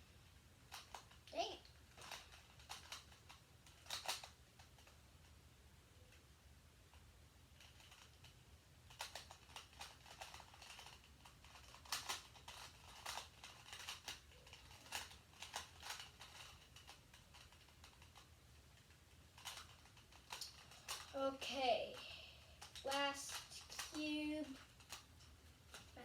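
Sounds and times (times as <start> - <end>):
puzzle cube clicking: 0.7 - 5.0, 7.6 - 21.2, 22.6 - 26.0.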